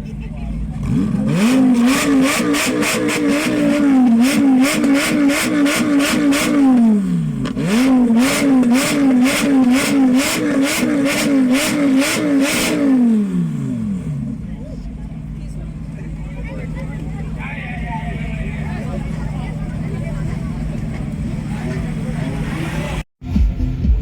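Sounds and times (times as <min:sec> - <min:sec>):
exhaust crackle: 0:00.0 - 0:24.0
supercar engine revving: 0:00.1 - 0:17.4, 0:18.0 - 0:24.0.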